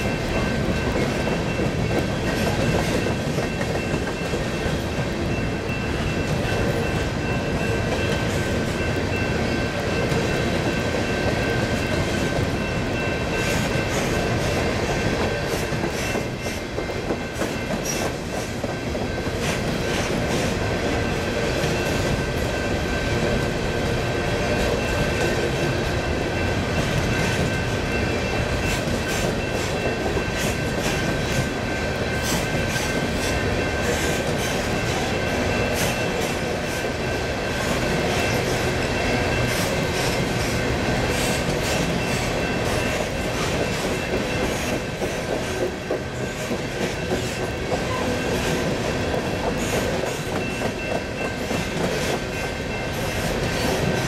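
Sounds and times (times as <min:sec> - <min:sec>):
train cars rolling past: 0:00.0 - 0:54.0.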